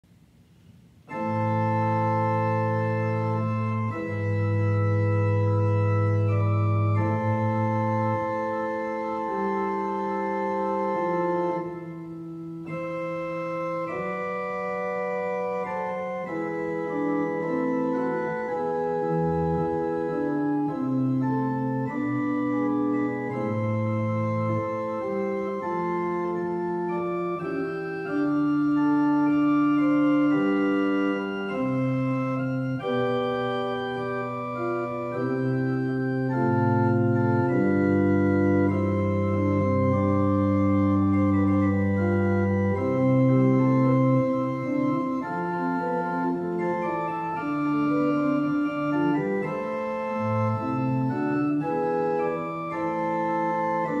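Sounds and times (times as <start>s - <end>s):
organ-like held chords: 0.5s - 54.0s.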